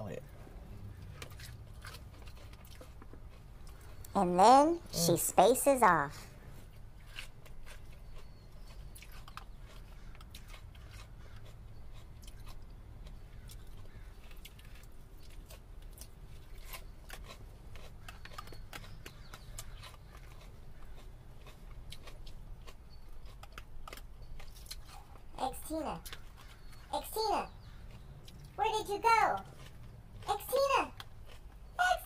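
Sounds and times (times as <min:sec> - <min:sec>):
steady low hum: 0:00.0 - 0:32.0
person chewing lettuce: 0:00.2 - 0:05.2, 0:06.3 - 0:32.0.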